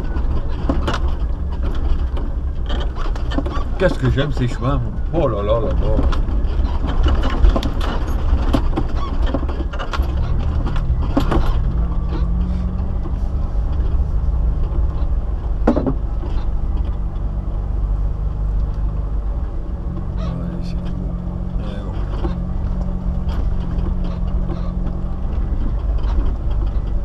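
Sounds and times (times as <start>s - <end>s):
off-road vehicle engine running: 0.0s - 27.0s
vehicle knocks and rattles: 0.0s - 27.0s.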